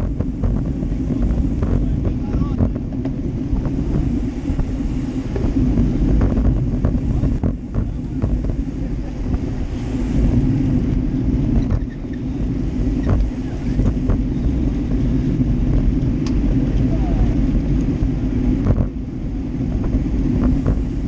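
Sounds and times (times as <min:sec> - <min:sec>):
bikes rolling on asphalt: 0:00.0 - 0:21.0
wind noise on microphone: 0:00.0 - 0:21.0.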